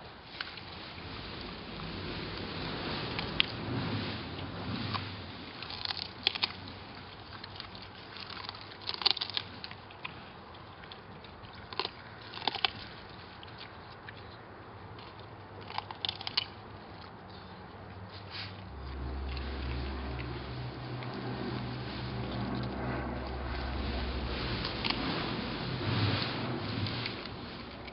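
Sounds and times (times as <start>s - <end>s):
dogs crunching vegetables: 0.0s - 27.9s.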